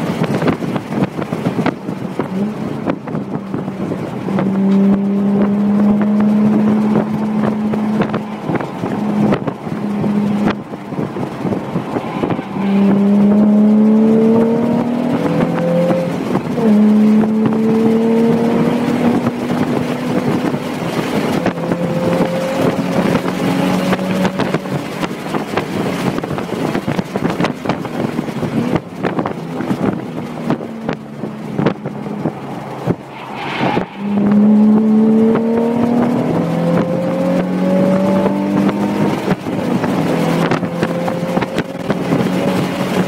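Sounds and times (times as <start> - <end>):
car engine revving: 0.0 - 43.0
road and wind noise: 0.0 - 43.0.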